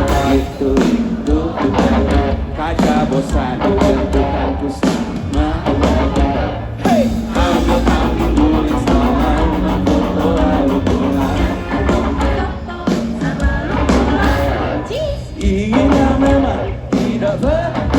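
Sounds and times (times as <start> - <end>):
live rock band playing: 0.0 - 17.9
person singing: 0.0 - 17.9.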